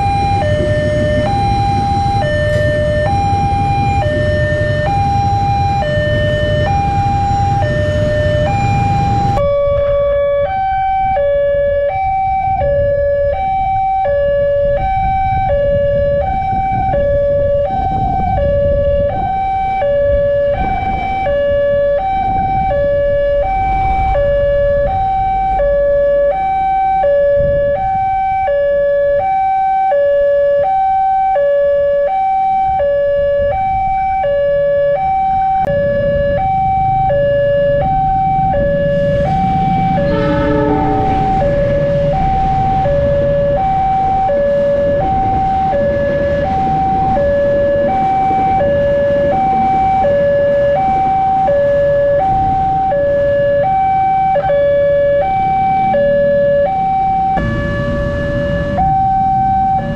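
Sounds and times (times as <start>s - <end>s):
level crossing two-tone alarm: 0.0s - 59.9s
road traffic rumble: 0.0s - 59.9s.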